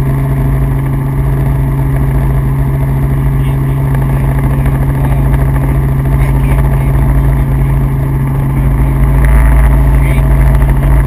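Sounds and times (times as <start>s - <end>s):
helicopter rotor drone: 0.0s - 11.0s.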